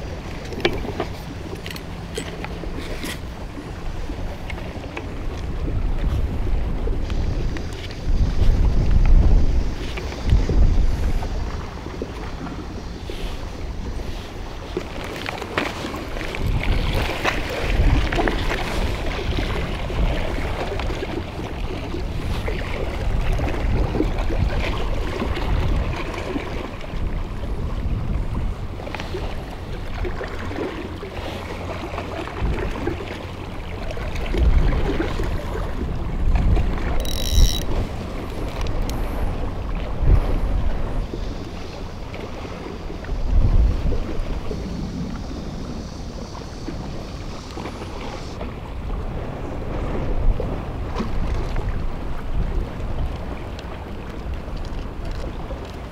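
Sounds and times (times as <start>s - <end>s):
sea washing against breakwater: 0.0s - 55.9s
wind buffeting microphone: 0.0s - 55.9s.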